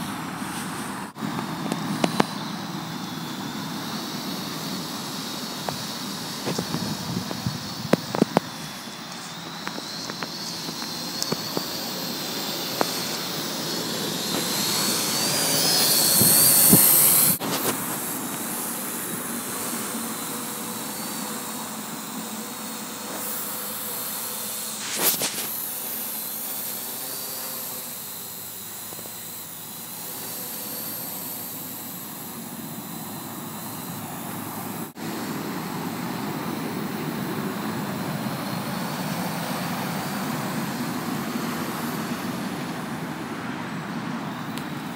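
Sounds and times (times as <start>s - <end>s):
drone rotors whining: 0.0s - 44.9s.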